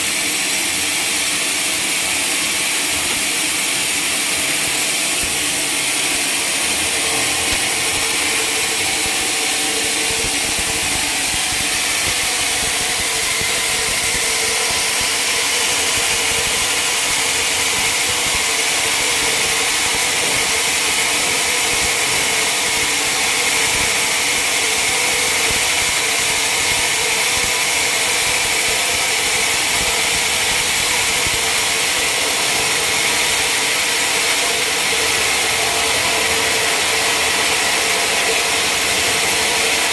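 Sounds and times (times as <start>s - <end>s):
sawmill hiss: 0.0s - 39.9s
sawmill hum: 0.0s - 39.9s.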